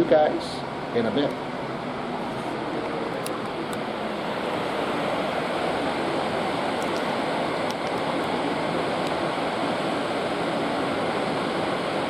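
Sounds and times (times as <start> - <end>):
sea water rushing: 0.0 - 12.0
wind: 0.0 - 12.0.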